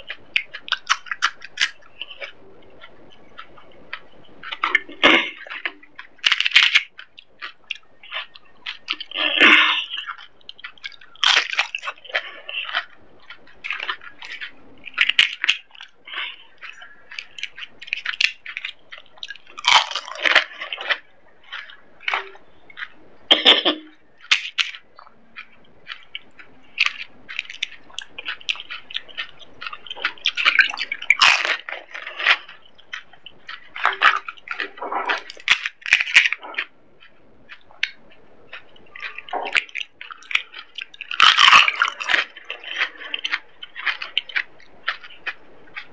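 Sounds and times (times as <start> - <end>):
crisp shells crunching in mouth: 0.0 - 45.9
wet chewing: 0.0 - 45.9.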